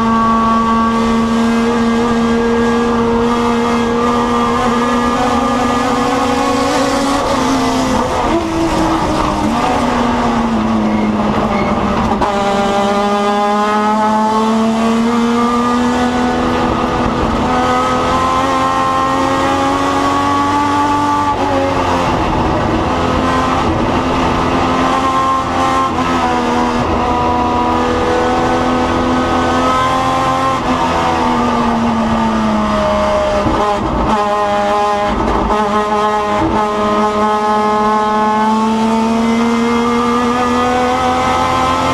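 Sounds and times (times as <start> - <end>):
race car engine under load: 0.0 - 41.9.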